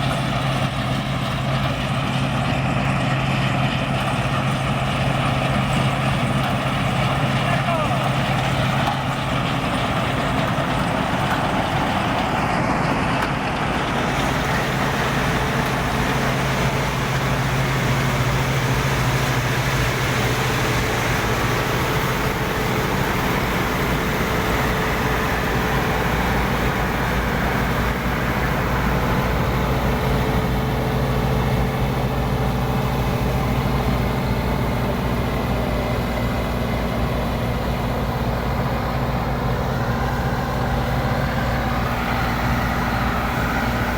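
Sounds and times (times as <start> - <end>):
combine harvester drone: 0.0 - 43.9.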